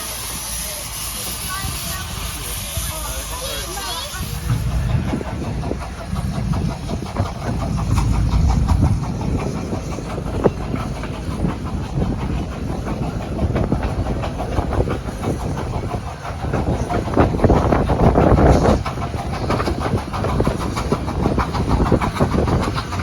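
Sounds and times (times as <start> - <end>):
train rumble: 0.0 - 23.0
train wheels clattering over rail joints: 1.0 - 23.0.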